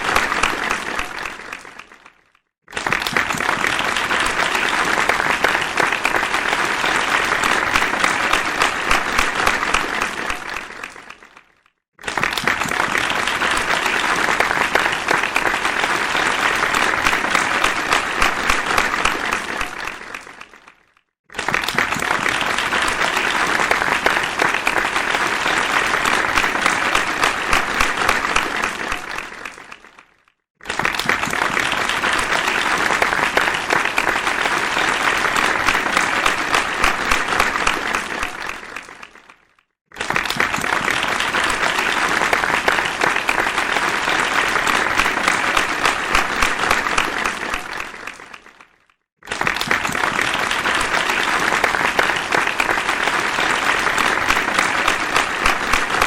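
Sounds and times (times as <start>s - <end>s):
crowd applause: 0.0s - 56.0s.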